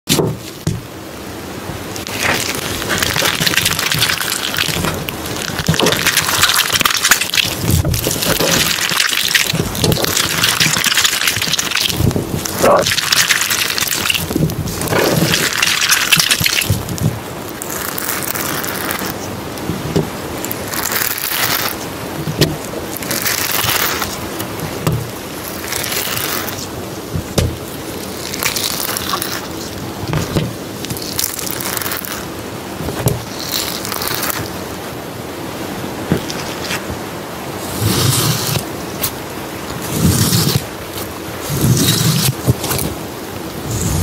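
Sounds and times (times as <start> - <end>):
steady rain hiss: 0.1 - 44.0.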